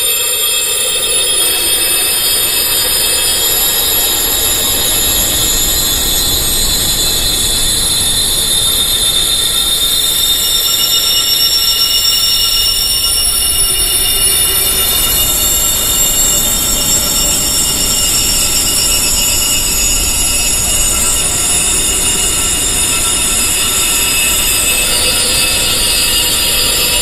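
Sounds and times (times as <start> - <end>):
wind chimes ringing: 0.0 - 27.0.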